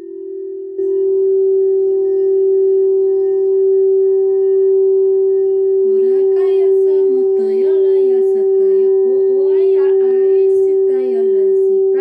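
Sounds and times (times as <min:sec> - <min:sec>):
singing bowl sustained tone: 0:00.0 - 0:12.0.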